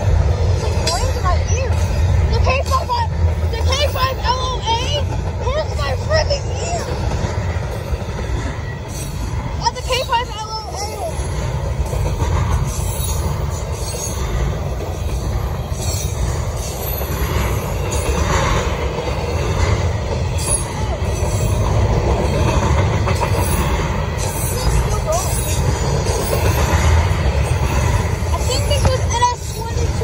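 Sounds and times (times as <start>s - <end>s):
steel wheels rumbling on rails: 0.0s - 30.0s.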